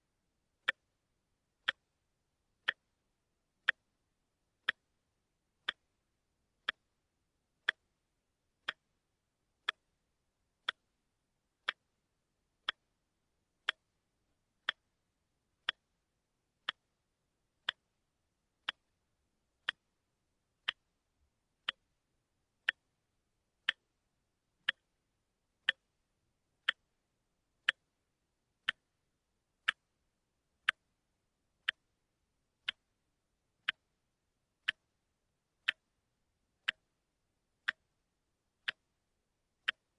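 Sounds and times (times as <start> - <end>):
wristwatch ticking: 0.6 - 2.0, 2.6 - 3.0, 3.6 - 7.0, 7.6 - 12.0, 12.6 - 24.0, 24.6 - 26.0, 26.6 - 39.9.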